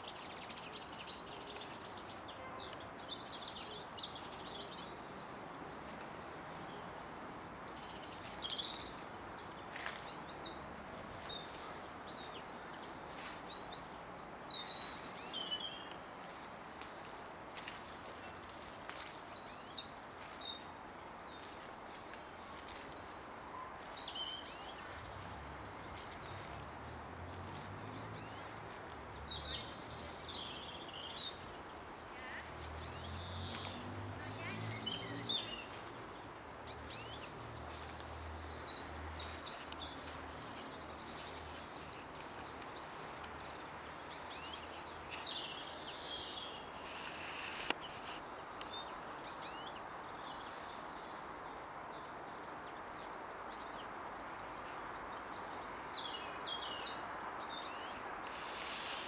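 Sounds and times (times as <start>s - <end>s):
outdoor background hiss: 0.0s - 59.0s
songbirds singing: 0.0s - 59.0s.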